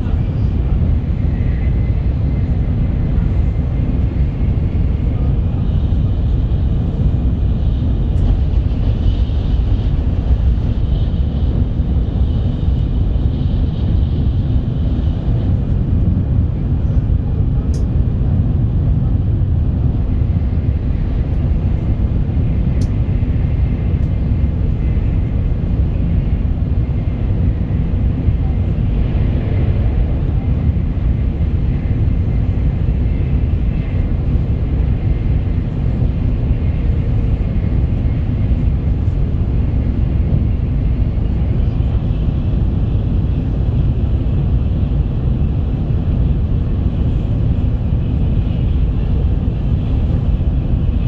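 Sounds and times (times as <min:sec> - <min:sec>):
train running at speed: 0:00.0 - 0:51.0.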